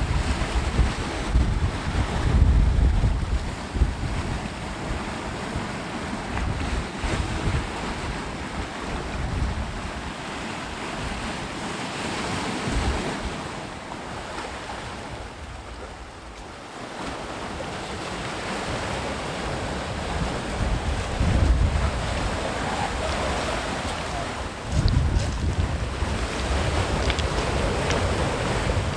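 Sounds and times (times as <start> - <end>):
sea waves breaking on shore: 0.0 - 28.9
wind buffeting microphone: 0.0 - 28.9.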